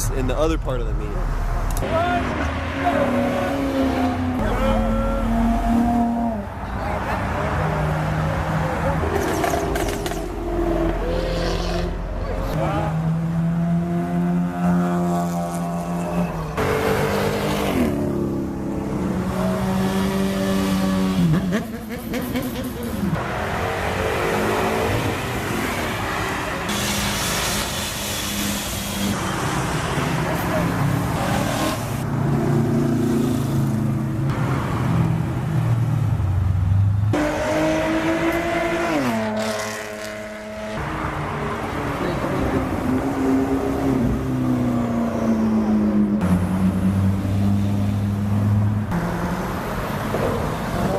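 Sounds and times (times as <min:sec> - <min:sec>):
cars driving past: 0:00.0 - 0:50.9.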